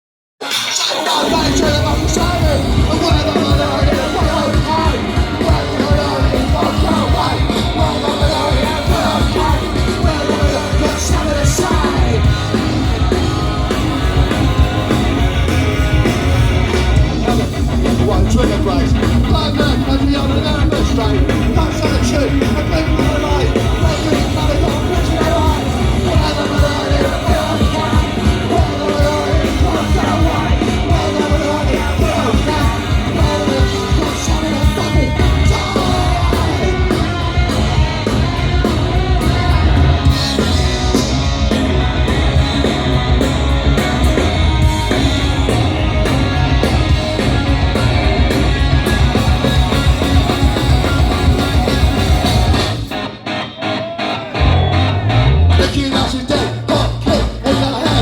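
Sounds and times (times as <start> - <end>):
punk rock band playing live: 0.4 - 58.0
shouted vocals: 0.6 - 58.0.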